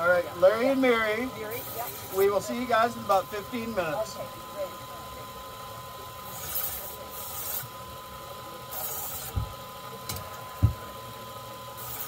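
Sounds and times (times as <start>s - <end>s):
blade hissing across sharpener belt: 0.6s - 4.7s, 6.2s - 12.0s.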